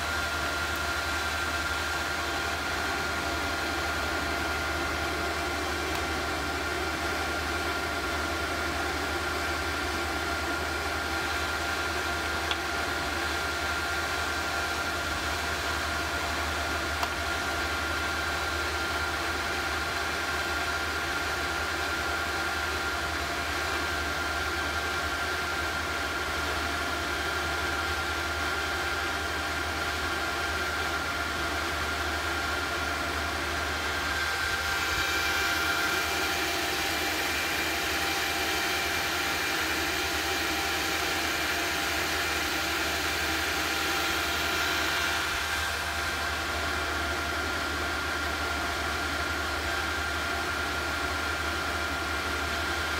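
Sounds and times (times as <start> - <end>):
induction heater humming: 0.0 - 52.9.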